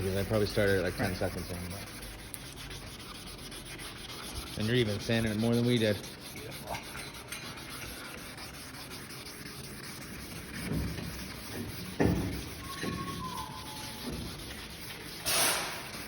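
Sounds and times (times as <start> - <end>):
sandpaper rubbing on plastic: 0.0 - 16.0.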